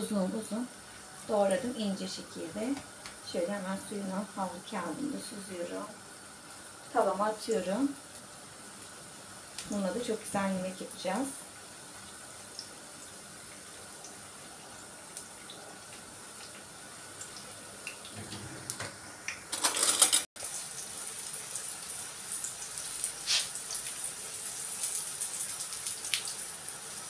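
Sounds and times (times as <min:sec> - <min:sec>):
vegetables sizzling in oil: 0:00.0 - 0:19.6, 0:20.3 - 0:27.0.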